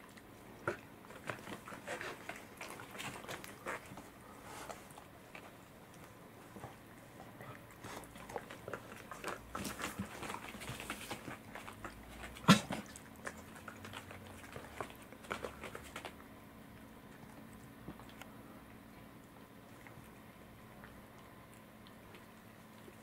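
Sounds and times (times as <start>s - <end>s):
cat chewing fish: 0.0s - 23.0s.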